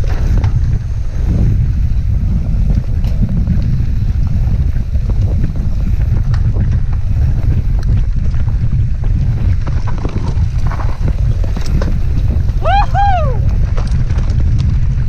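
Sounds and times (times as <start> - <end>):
bike rattling over rough ground: 0.0 - 15.0
wind buffeting microphone: 0.0 - 15.0.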